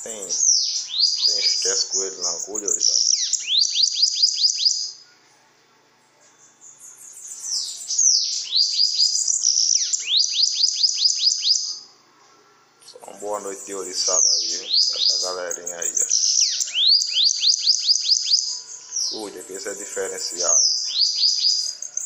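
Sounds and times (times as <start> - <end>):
bird singing: 0.0 - 12.0, 12.8 - 22.0
high buzzy bird trill: 0.0 - 22.0.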